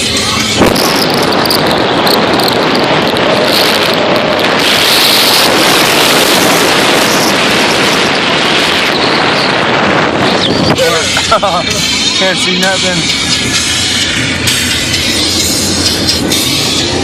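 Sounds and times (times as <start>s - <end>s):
vehicle rushing noise: 0.0s - 17.0s
wind buffeting microphone: 0.0s - 17.0s.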